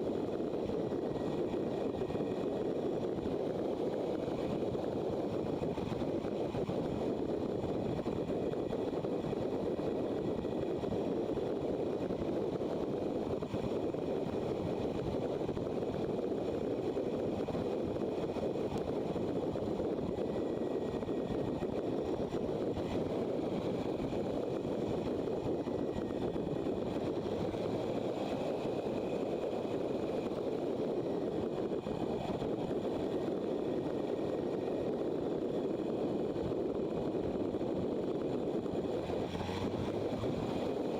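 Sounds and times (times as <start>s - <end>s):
motorcycle engine and wind noise: 0.0s - 40.9s.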